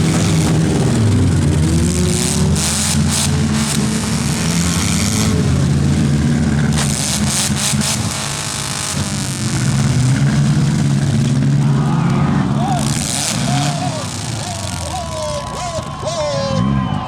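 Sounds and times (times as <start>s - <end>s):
car engines revving: 0.0s - 17.0s
cars crashing: 0.0s - 17.0s.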